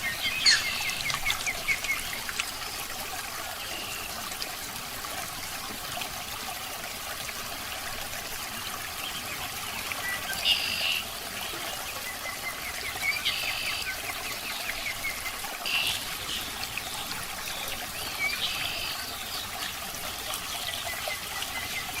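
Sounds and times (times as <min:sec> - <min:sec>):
aquarium water trickling: 0:00.0 - 0:22.0.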